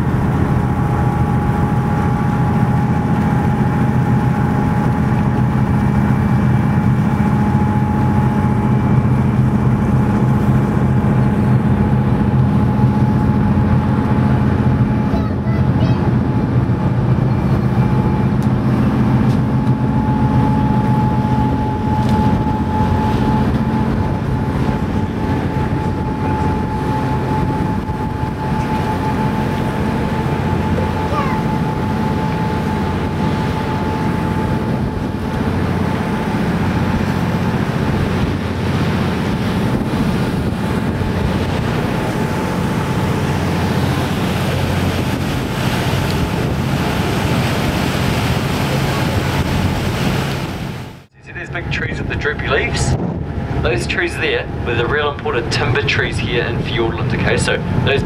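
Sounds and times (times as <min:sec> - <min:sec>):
boat engine droning: 0:00.0 - 0:58.0
wind buffeting microphone: 0:00.0 - 0:58.0.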